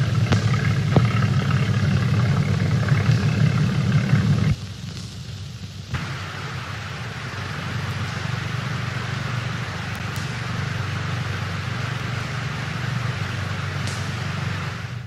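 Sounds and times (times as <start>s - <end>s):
rushing water: 0.0s - 4.6s, 5.9s - 15.0s
steady low rumble: 0.0s - 15.0s.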